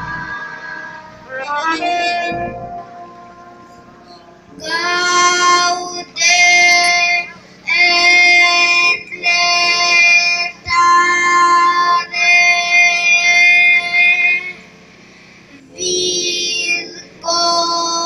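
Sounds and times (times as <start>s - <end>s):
child singing long notes: 0.0s - 14.6s, 15.6s - 18.0s.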